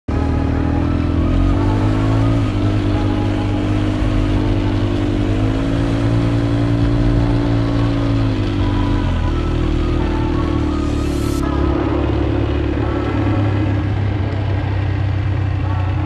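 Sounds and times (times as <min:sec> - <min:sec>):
engine running while riding: 0:00.1 - 0:16.0.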